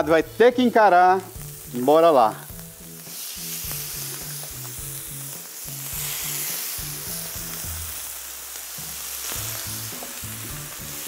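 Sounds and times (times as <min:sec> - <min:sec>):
chicken sizzling on griddle: 0:00.0 - 0:11.0.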